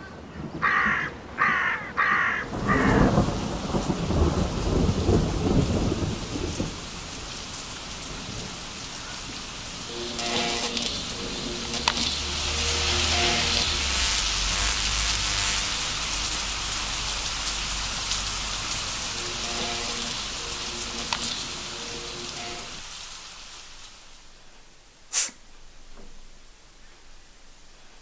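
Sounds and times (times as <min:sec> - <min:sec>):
low rumble of thunder: 0:00.0 - 0:22.8
steady rain hissing: 0:00.0 - 0:28.0.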